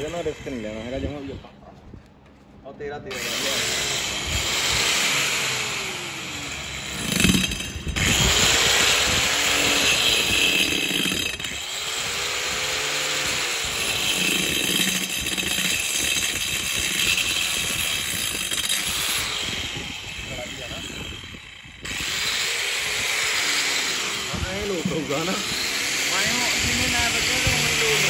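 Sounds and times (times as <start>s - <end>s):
angle grinder cutting plywood: 3.1s - 28.0s.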